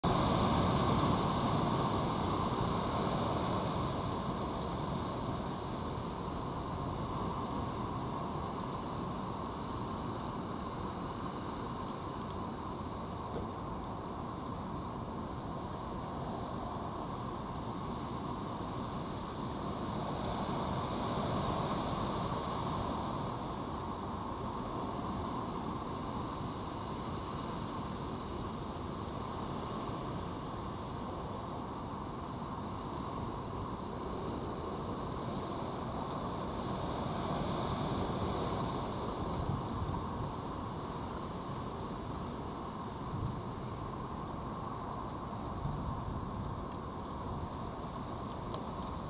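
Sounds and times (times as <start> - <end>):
hiss: 0.0 - 49.0
rushing outdoor background noise: 0.0 - 49.0.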